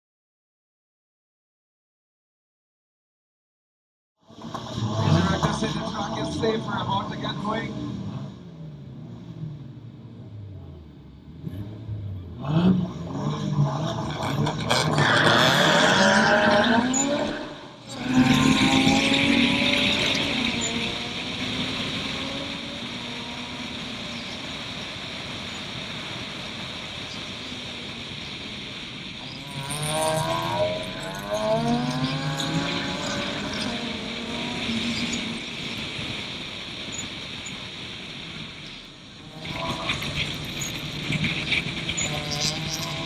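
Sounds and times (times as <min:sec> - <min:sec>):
race car engine accelerating: 0:04.3 - 0:37.8, 0:39.2 - 0:43.0.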